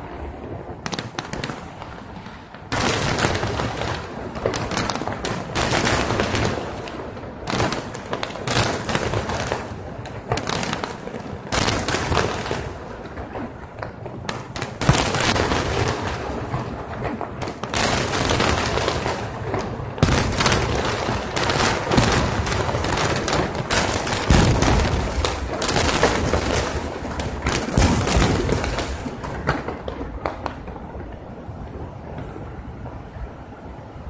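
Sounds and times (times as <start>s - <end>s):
fireworks booming and crackling: 0.0s - 33.6s.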